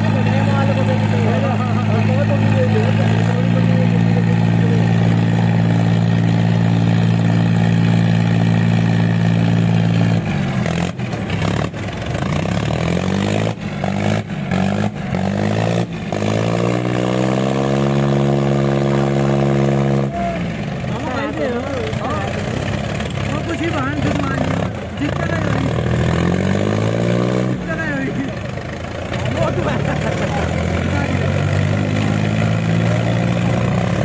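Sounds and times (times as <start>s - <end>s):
diesel tractor engines under load: 0.0s - 34.0s.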